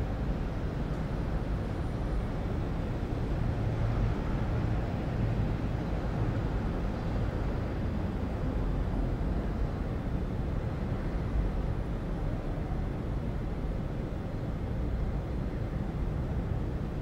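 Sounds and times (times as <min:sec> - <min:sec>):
low rumble of street traffic: 0:00.0 - 0:17.0.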